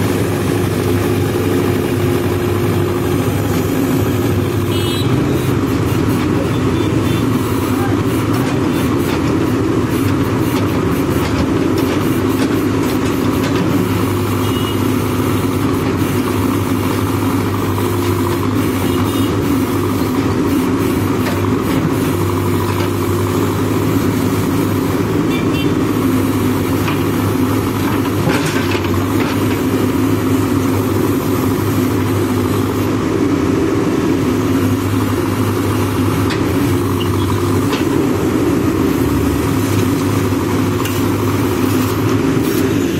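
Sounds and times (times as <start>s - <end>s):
diesel engine running: 0.0s - 42.9s
backhoe arm working: 5.4s - 33.0s, 34.3s - 42.9s.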